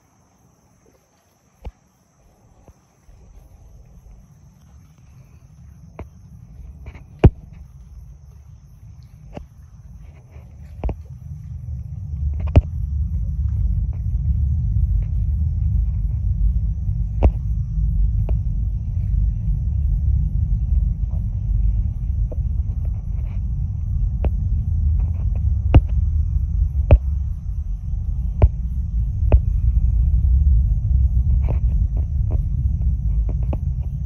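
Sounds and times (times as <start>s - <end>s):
rocket engines rumbling: 2.2s - 34.0s.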